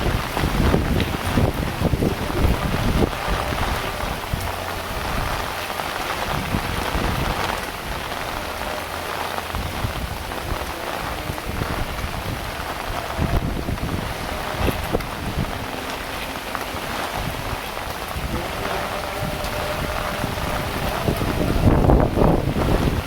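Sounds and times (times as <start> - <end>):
heavy rain falling: 0.0 - 23.0
wind rumbling on microphone: 0.0 - 23.0.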